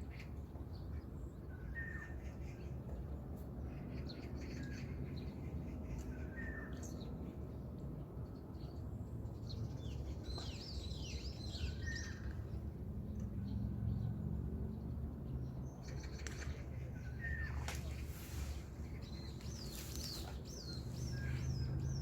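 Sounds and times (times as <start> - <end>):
low open-air background hum: 0.0 - 22.0.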